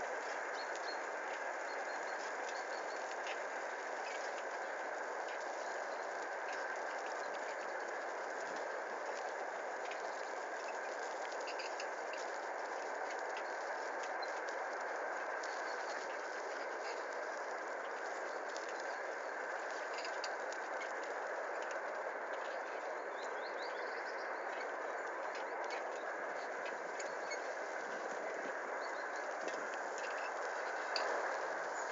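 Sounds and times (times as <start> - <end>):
bicycle rolling on dirt track: 0.2 - 22.8, 24.8 - 31.9.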